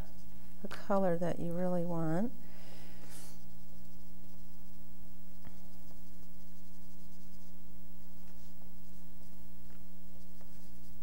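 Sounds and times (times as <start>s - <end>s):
oil pastel scratching on paper: 0.0s - 1.5s, 3.2s - 11.0s
electrical hum: 0.0s - 11.0s.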